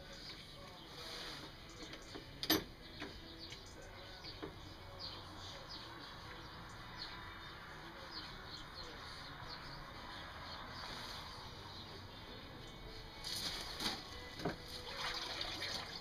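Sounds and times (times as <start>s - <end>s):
small birds chirping: 0.0s - 14.4s.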